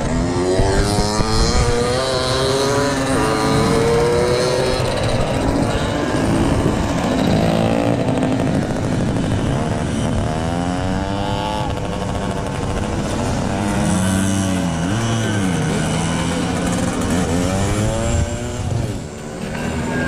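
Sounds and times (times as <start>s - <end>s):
motorcycles revving past: 0.0s - 20.0s.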